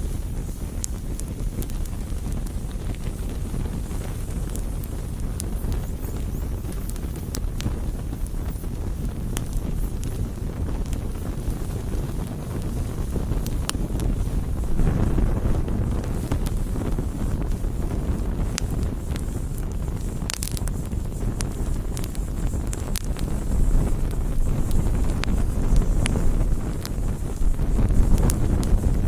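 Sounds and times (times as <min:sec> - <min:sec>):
bonfire burning: 0:00.0 - 0:29.0
burning wood crackling and popping: 0:00.0 - 0:29.0.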